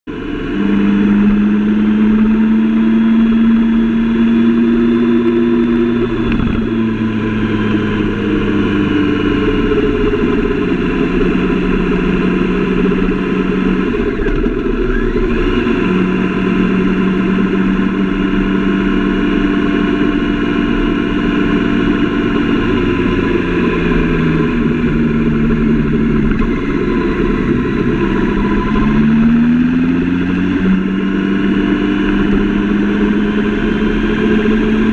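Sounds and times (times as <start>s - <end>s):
motorcycle engine running: 0.0s - 34.9s
rushing wind noise: 3.8s - 34.9s.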